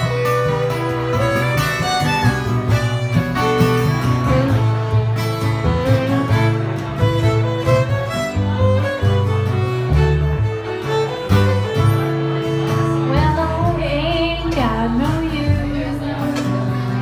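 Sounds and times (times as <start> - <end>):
fiddle melody: 0.0 - 17.0
plucked upright bass: 0.0 - 17.0
strummed acoustic guitar: 0.0 - 17.0.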